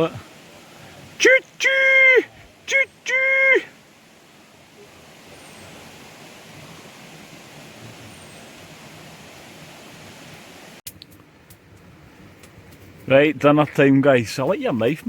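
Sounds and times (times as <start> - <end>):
rain falling in woodland: 0.0 - 15.0
stream running: 0.0 - 15.0.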